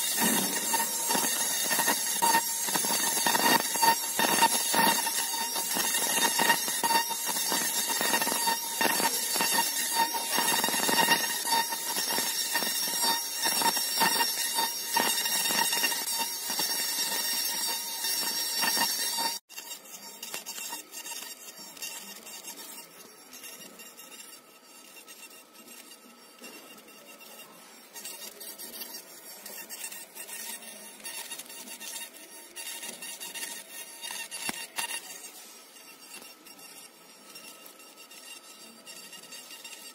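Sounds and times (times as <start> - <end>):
metal crackling under laser: 0.0 - 39.9
pulsing tone: 0.0 - 39.9
steady high-pitched whine: 0.0 - 39.9.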